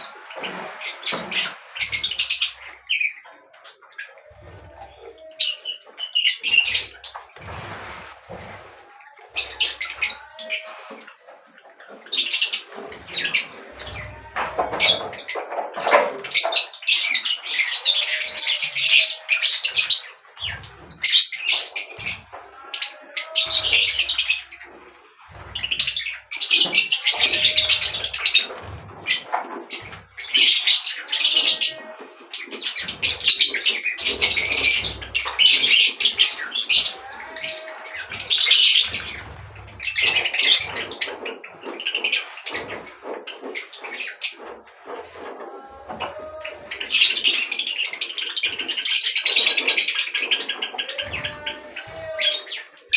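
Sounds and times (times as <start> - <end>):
birds chirping and chattering: 0.0 - 52.9.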